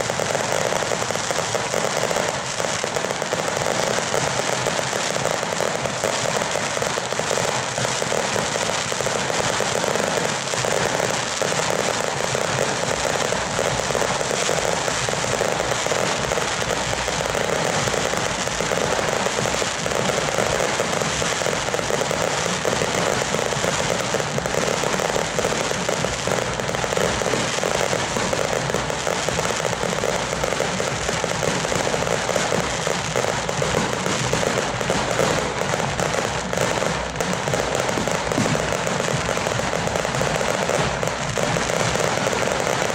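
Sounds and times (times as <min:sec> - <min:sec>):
fireworks crackling bangs: 0:00.0 - 0:42.9.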